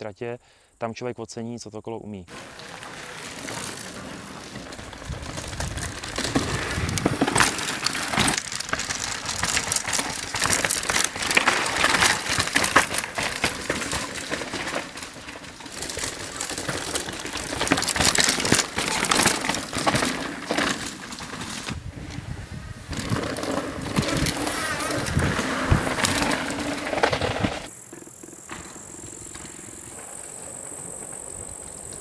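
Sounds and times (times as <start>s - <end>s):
tyres crunching over stones: 2.3s - 30.1s
bikes rattling: 2.3s - 32.0s.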